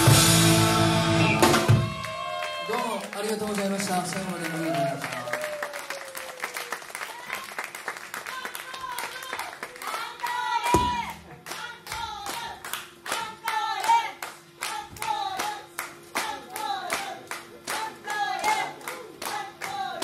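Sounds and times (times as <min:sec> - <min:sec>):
small audience clapping: 0:01.4 - 0:20.0.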